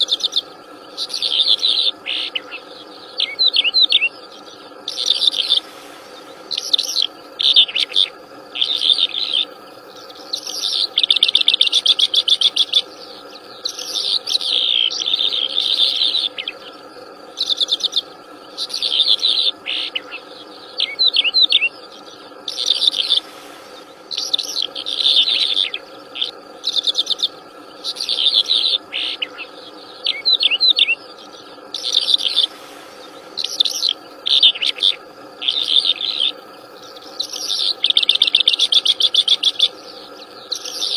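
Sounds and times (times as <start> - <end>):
insects droning: 0.0 - 40.9
songbird singing: 0.0 - 40.9.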